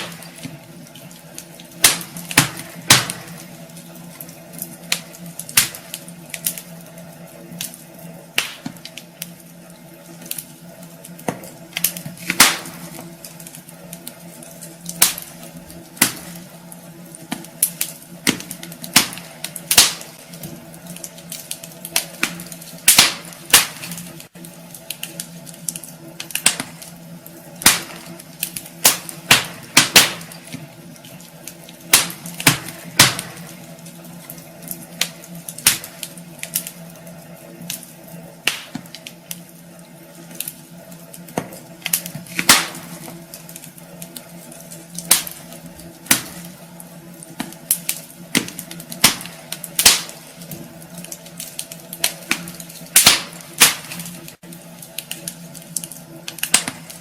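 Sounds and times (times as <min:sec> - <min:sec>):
sharp snaps of fire: 0:00.0 - 0:57.0
wood fire crackling and popping: 0:00.0 - 0:57.0.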